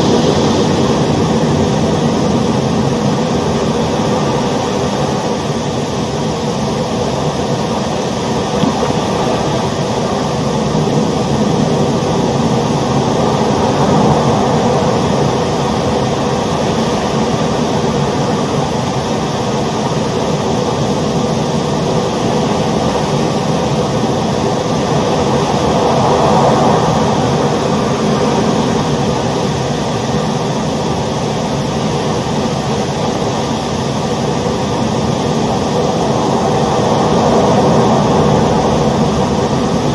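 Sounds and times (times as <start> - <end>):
ocean waves roaring: 0.0 - 39.9.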